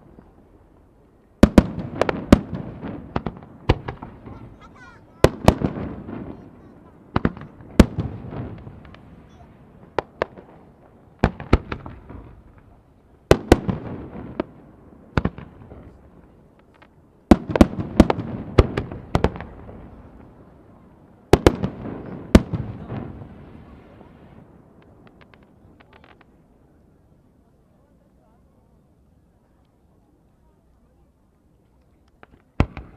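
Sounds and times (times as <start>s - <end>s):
fireworks bangs with echoing rumble: 0.0s - 26.8s, 32.2s - 32.9s.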